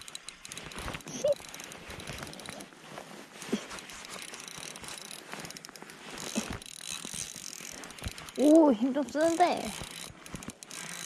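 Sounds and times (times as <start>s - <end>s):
fishing reel clicking: 0.0s - 2.7s, 3.8s - 11.0s
reel squeaks: 0.0s - 11.0s.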